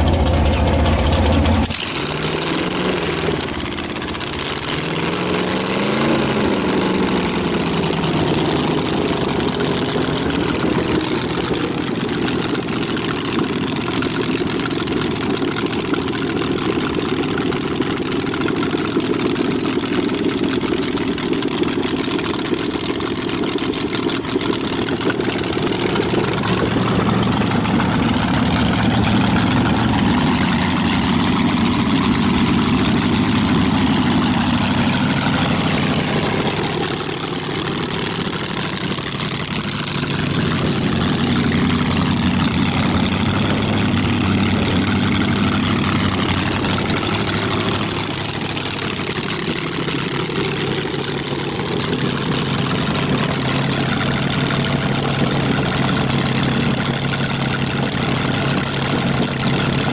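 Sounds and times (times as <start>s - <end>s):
dragster engine revving: 0.0s - 59.9s.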